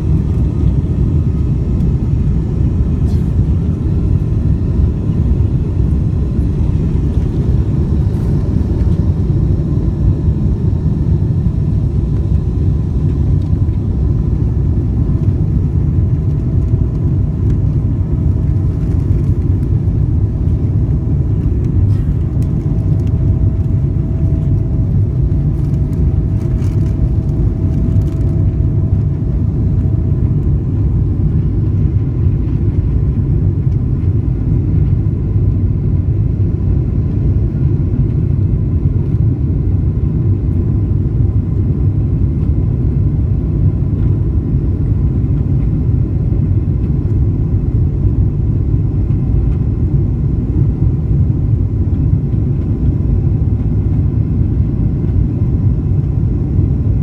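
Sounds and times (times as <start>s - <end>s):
faint steady whine: 0.0s - 57.0s
jet engines rumbling in cabin: 0.0s - 57.0s.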